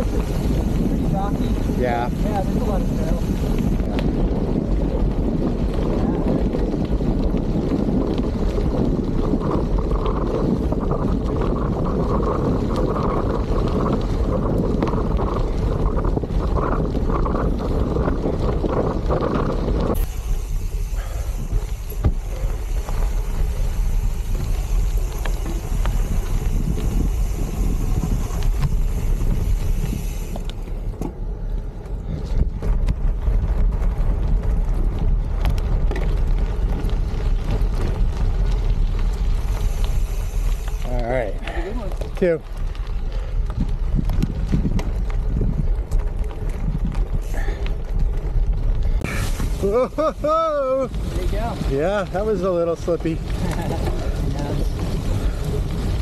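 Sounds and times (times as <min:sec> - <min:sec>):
bike tyres rumbling on gravel: 0:00.0 - 0:56.0
wind buffeting microphone: 0:00.0 - 0:56.0.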